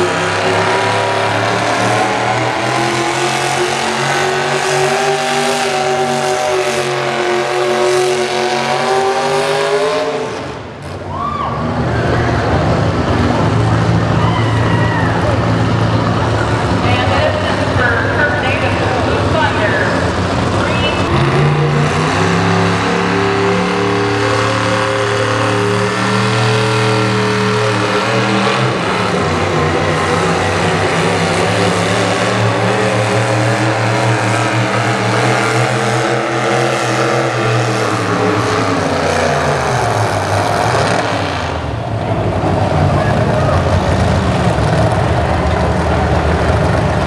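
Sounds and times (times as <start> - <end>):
tractor engine at high revs: 0.0 - 14.2, 15.2 - 47.0.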